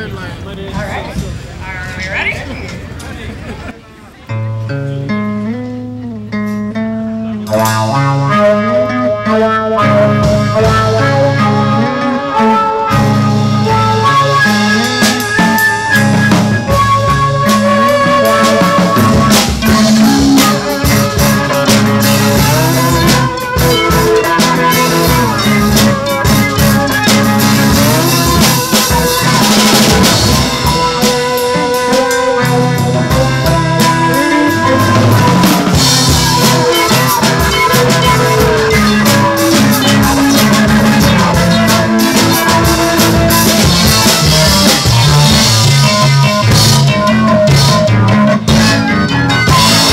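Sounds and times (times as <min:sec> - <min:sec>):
guitar melody: 0:04.2 - 0:49.9
live band music: 0:04.3 - 0:49.9
drum kit snare and rimshots: 0:07.5 - 0:49.9.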